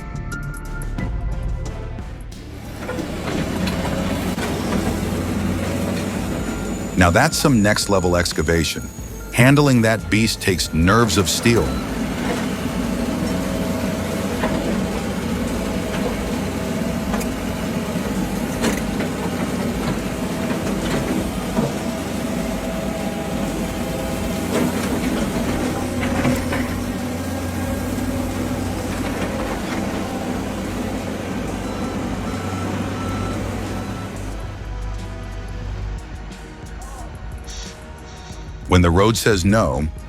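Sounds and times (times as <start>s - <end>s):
diesel machinery engine running: 2.3s - 40.0s.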